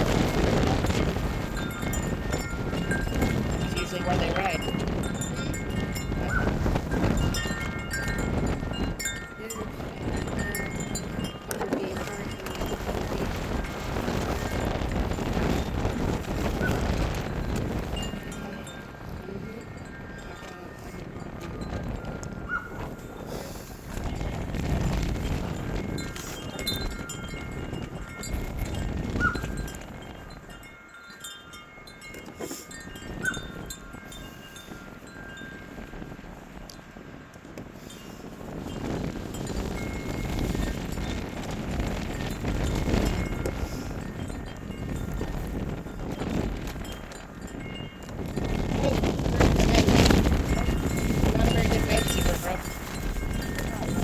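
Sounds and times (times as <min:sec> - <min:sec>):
wind buffeting microphone: 0:00.0 - 0:54.0
wind chimes ringing: 0:00.0 - 0:54.0.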